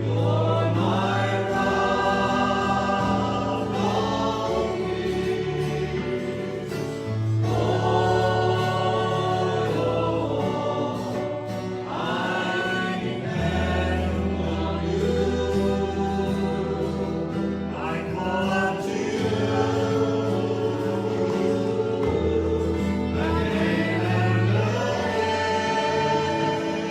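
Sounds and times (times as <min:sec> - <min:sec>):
voices singing together: 0:00.0 - 0:26.9.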